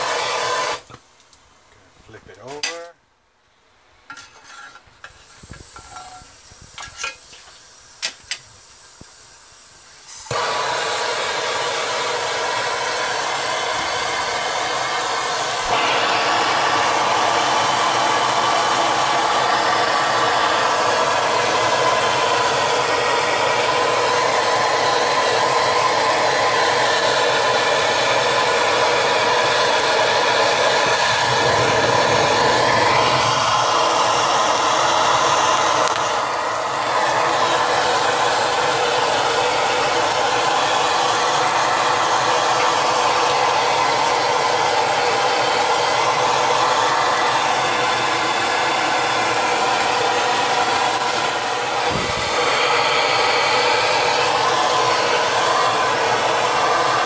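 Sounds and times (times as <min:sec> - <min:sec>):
hand torch flame rushing: 0:10.1 - 0:57.0.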